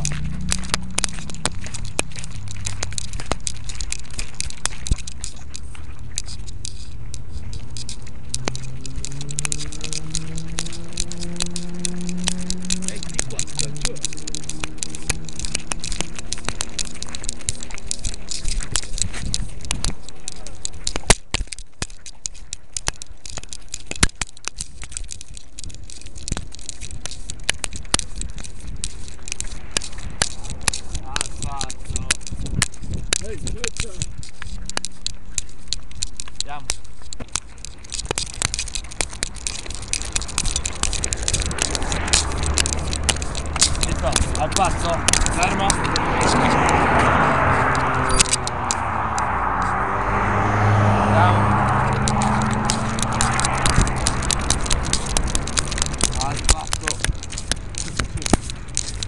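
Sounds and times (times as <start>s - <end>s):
steady low rumble: 0.0s - 23.9s, 24.6s - 59.0s
microphone rubbing on fur and collar: 0.0s - 49.8s, 51.4s - 59.0s.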